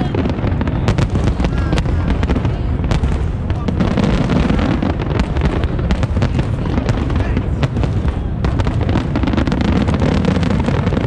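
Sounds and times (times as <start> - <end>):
fireworks booming rumble: 0.0 - 11.0
fireworks crackling and popping: 0.0 - 11.0.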